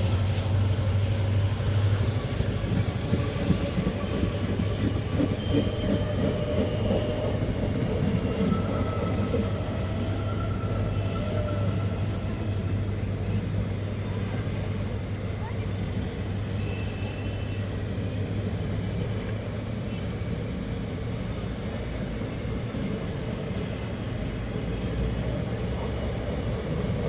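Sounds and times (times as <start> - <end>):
diesel locomotive hum: 0.0 - 27.0.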